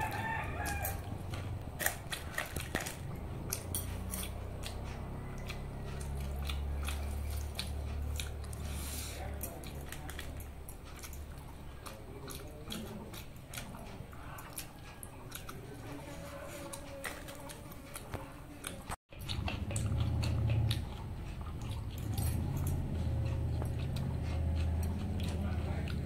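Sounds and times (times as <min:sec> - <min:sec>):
person chewing with mouth clicks: 0:00.0 - 0:26.0.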